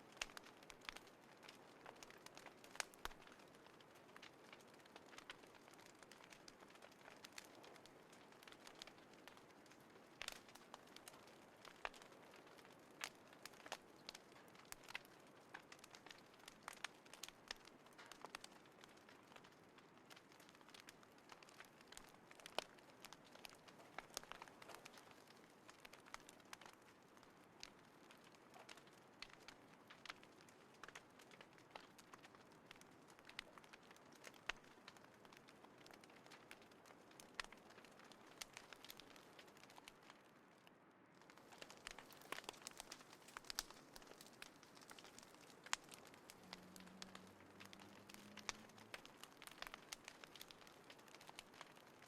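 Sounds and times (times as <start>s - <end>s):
campfire crackling and popping: 0.0s - 52.0s
low steady hiss: 0.0s - 52.0s.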